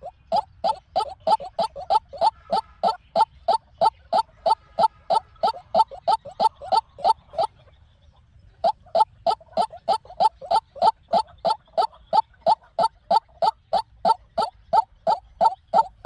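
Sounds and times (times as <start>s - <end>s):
waterhen calling harsh notes: 0.0s - 7.5s, 8.6s - 16.0s.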